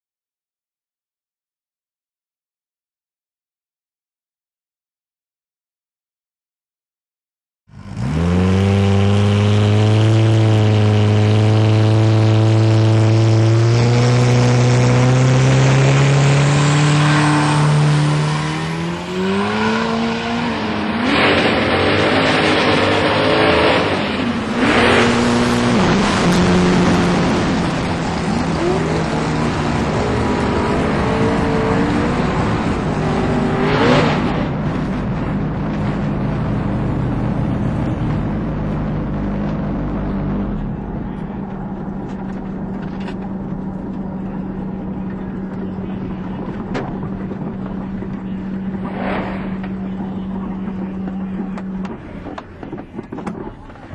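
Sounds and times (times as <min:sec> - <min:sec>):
race car engine revving: 0:07.7 - 0:53.6.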